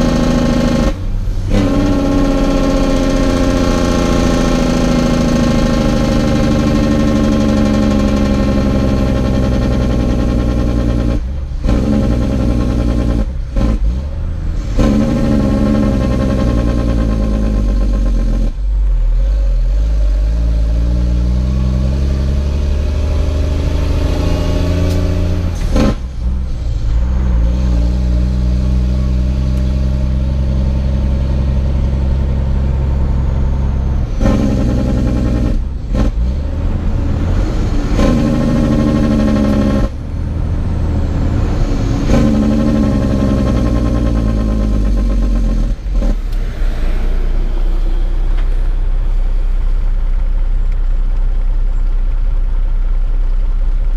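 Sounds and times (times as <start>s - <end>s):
truck diesel engine revving: 0.0s - 52.0s.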